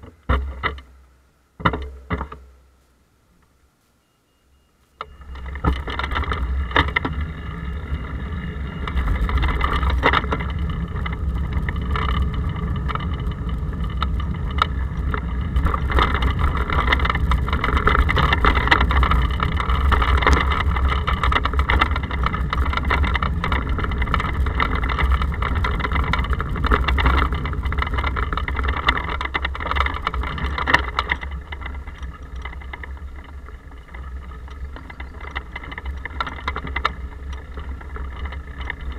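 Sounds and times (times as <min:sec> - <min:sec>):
knocks and rattles from bumps: 0:00.0 - 0:02.6, 0:05.0 - 0:38.9
muffled road vibration rumble: 0:00.0 - 0:38.9.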